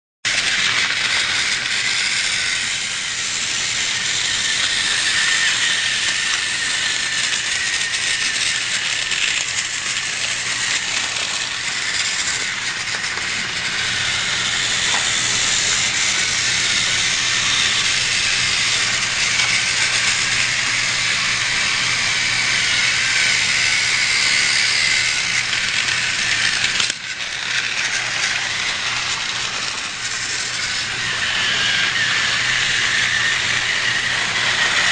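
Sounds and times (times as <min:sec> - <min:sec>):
toy train motor whirring and rattling: 0:00.3 - 0:34.9.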